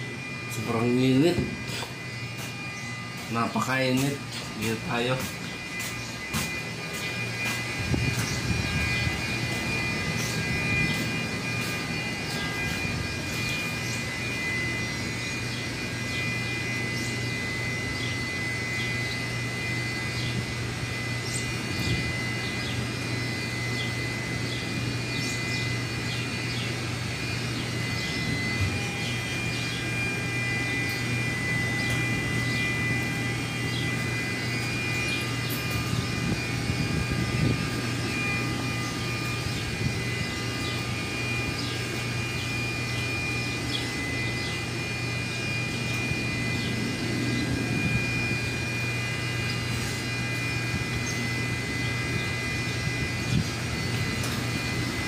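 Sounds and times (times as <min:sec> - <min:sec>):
high whining tones: 0:00.0 - 0:55.0
machinery low drone: 0:00.0 - 0:55.0.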